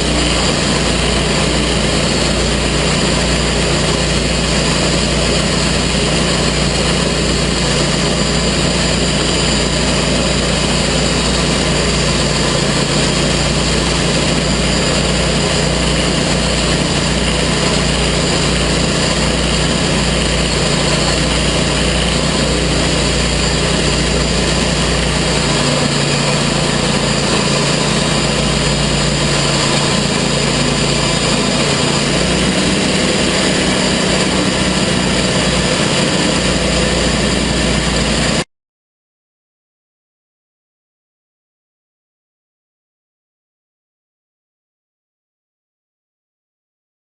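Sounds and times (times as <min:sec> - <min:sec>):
sawmill engine running: 0:00.0 - 0:38.5.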